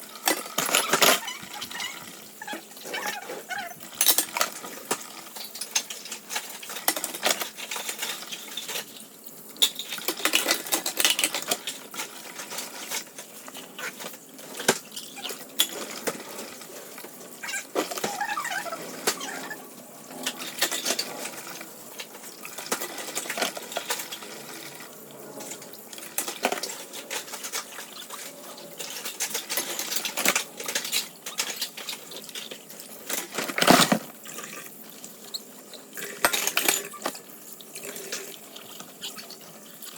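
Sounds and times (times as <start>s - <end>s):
dishes and utensils clinking: 0.1s - 34.2s, 35.2s - 39.9s.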